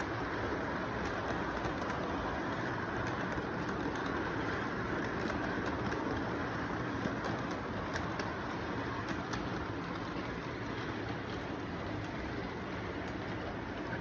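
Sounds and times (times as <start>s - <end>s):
model train rumbling on track: 0.0s - 14.0s.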